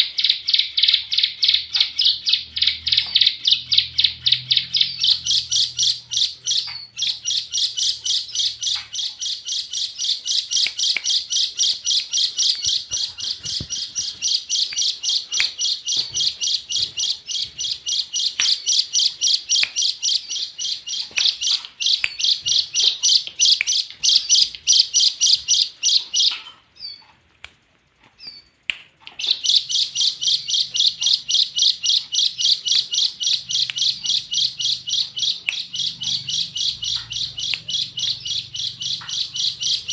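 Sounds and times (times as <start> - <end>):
bird chirping: 0.0 - 27.2, 28.0 - 39.9.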